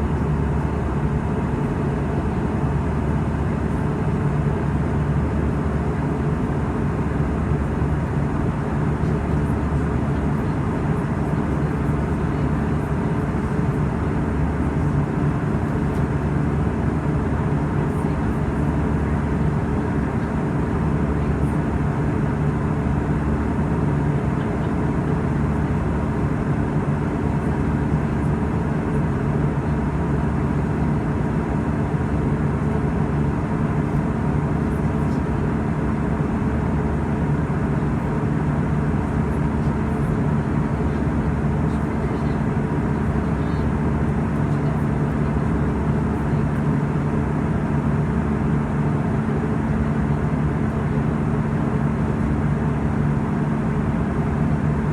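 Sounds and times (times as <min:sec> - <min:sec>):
jet engines and airflow drone: 0:00.0 - 0:54.9
low steady hums: 0:00.0 - 0:54.9.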